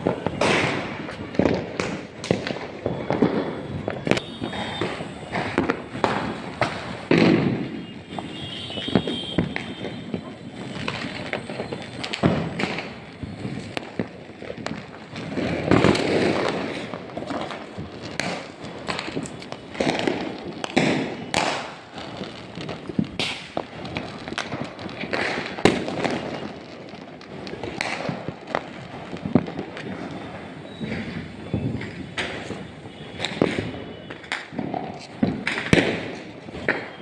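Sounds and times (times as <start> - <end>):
fireworks cracking and banging: 0.0 - 37.0.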